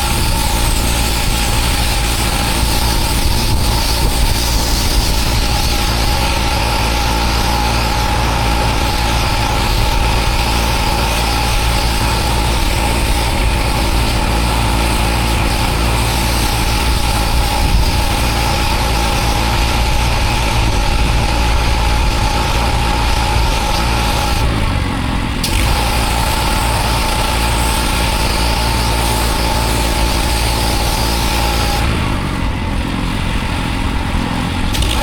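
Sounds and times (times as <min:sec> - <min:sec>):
pressure washer motor drone: 0:00.0 - 0:35.0
water jet hissing on paving: 0:00.0 - 0:35.0.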